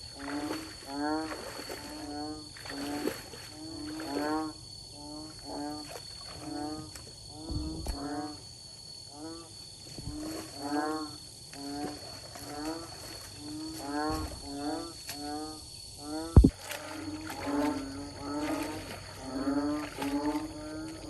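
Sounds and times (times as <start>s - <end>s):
frogs calling: 0.0s - 21.0s.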